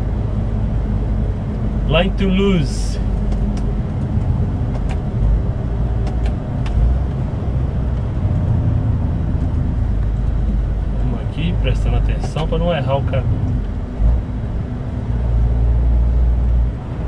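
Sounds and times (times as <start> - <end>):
truck engine drone and road rumble: 0.0 - 17.0.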